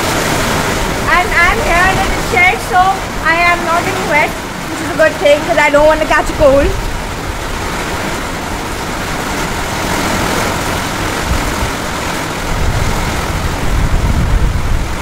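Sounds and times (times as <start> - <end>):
heavy rain on a roof: 0.0 - 15.0.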